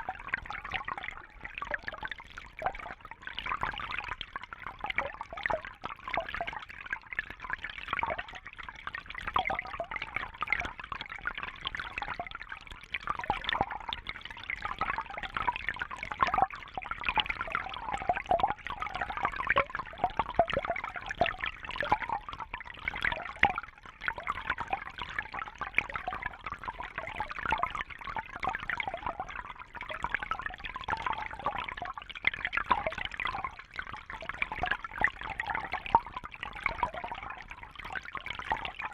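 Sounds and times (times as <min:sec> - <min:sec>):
water trickling and bubbling: 0:00.0 - 0:38.9.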